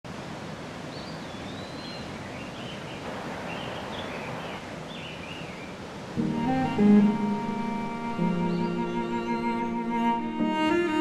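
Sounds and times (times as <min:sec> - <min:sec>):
outdoor background hiss: 0:00.1 - 0:11.0.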